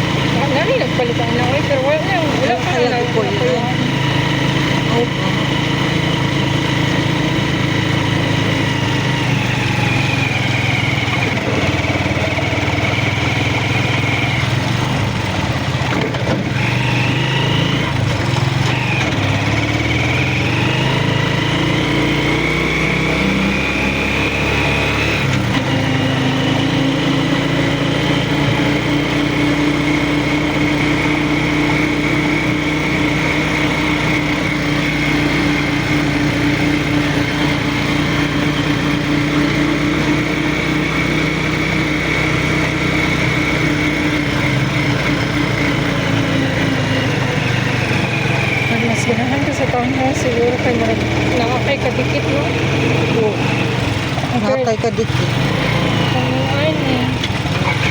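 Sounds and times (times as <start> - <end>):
vehicle engine revving: 0.0 - 57.9.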